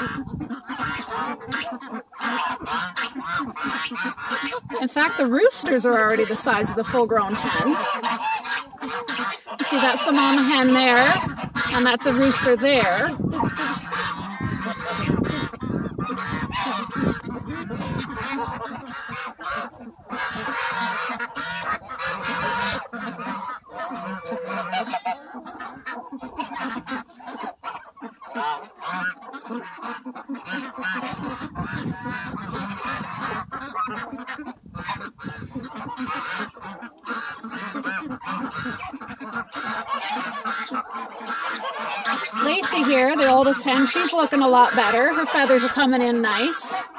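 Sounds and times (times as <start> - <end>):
ducks calling: 0.0 - 46.9
geese honking: 0.0 - 46.9.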